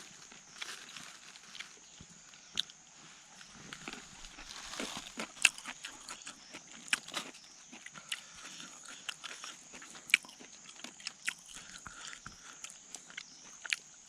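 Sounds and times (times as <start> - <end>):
person chewing crunchy bones: 0.2 - 2.8, 3.4 - 14.0.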